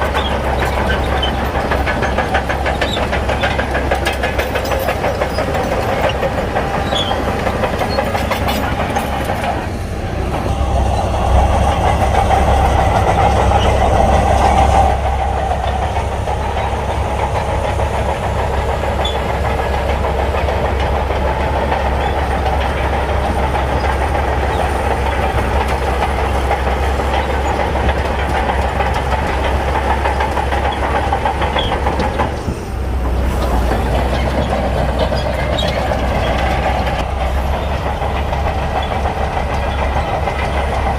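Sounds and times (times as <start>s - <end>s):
diesel engine under load: 0.0s - 40.9s
steel tracks clattering: 0.0s - 40.9s.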